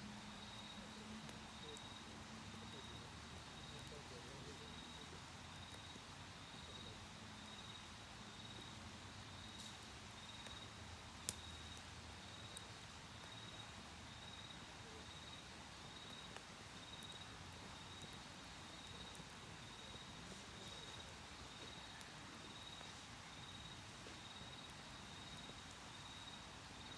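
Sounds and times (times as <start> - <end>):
campfire popping and crackling: 0.0 - 26.9
cricket chirping: 0.1 - 26.9.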